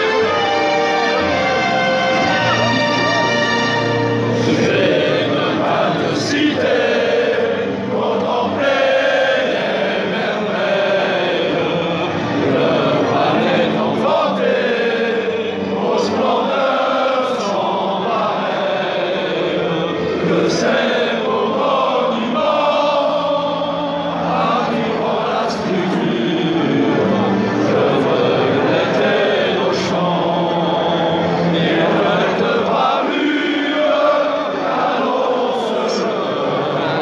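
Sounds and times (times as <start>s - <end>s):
crowd chanting in unison: 0.0s - 37.0s.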